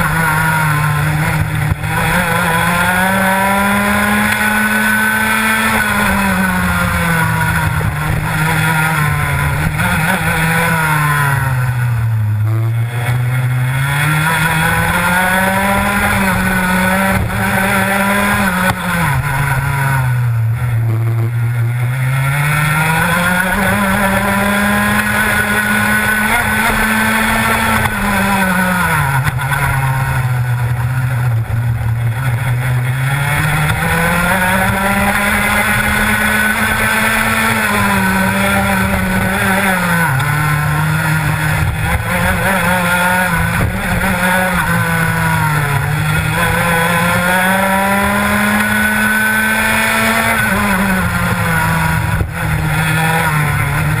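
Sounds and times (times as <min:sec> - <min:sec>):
kart engine at racing speed: 0:00.0 - 0:54.0.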